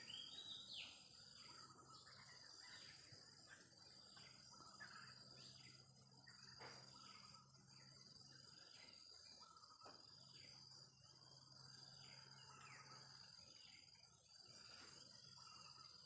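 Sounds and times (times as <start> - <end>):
high insect drone: 0.0 - 16.0
pulsing insect chirr: 0.0 - 16.0.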